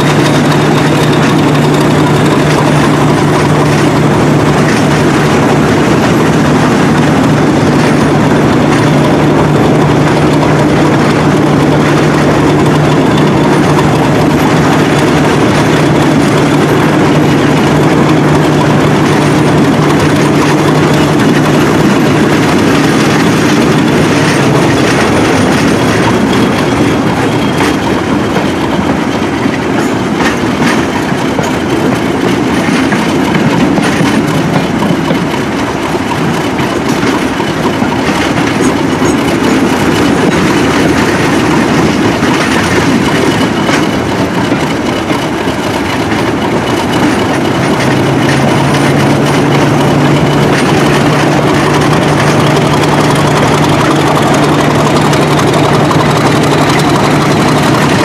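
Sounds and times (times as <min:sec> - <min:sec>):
diesel locomotive engine: 0:00.0 - 0:58.0
wheels clattering over rails: 0:00.0 - 0:58.0.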